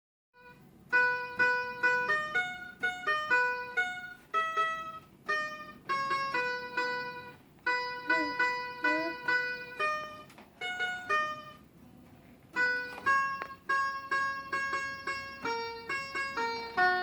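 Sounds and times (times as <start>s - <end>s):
toy guitar melody: 0.4s - 11.8s, 12.5s - 17.0s.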